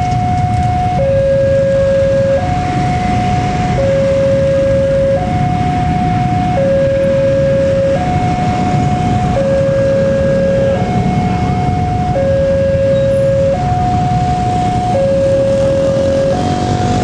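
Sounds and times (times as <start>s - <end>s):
two-tone level crossing alarm: 0.0s - 17.0s.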